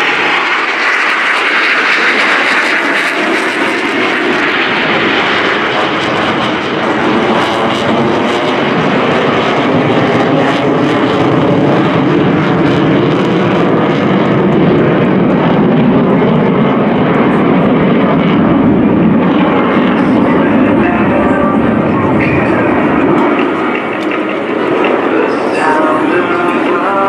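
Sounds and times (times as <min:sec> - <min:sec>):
jet engines roaring overhead: 0:00.0 - 0:27.0.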